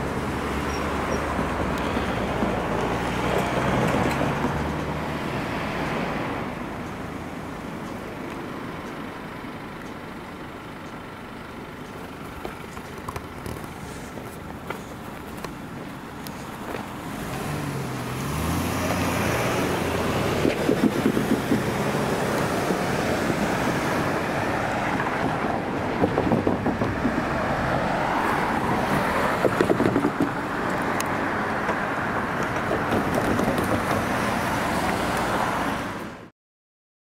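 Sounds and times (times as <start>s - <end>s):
road traffic passing: 0.0s - 36.3s.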